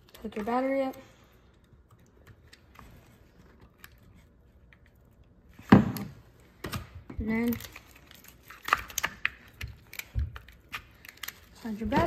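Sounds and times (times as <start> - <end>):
fiddling with wires: 0.0 - 12.0.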